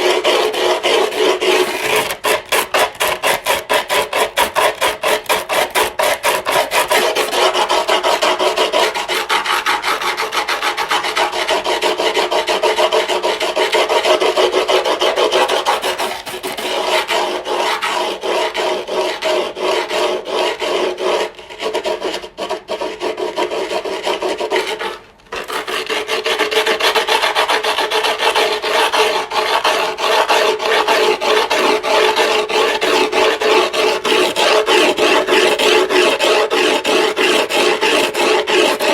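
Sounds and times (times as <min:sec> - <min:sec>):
file rasping on griptape: 0:00.0 - 0:38.9.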